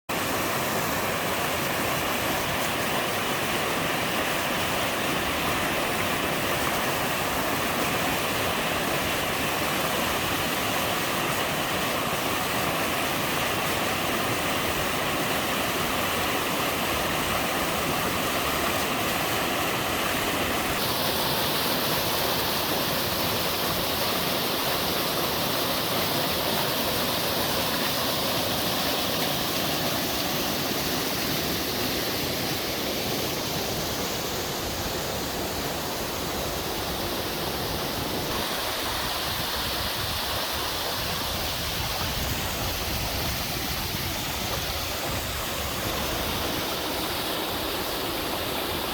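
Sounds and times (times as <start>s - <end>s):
waterfall rushing: 0.1s - 48.9s.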